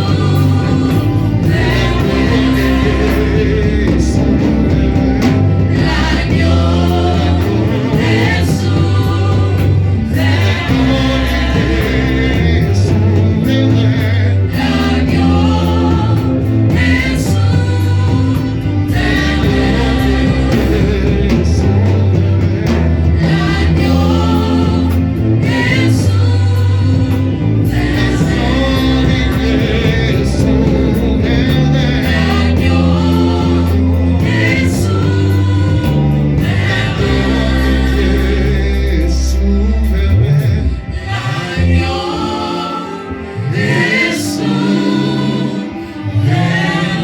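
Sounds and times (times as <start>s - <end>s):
band with steady bass line: 0.0s - 47.0s
choir singing gospel music: 0.0s - 47.0s.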